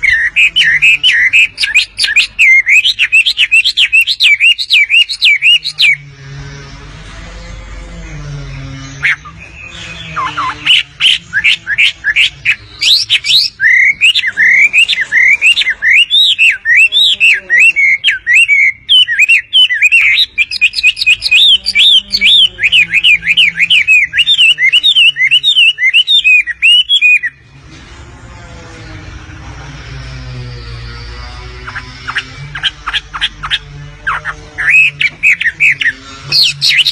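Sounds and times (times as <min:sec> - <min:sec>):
bird chirping: 0:00.0 - 0:27.5, 0:30.9 - 0:36.9.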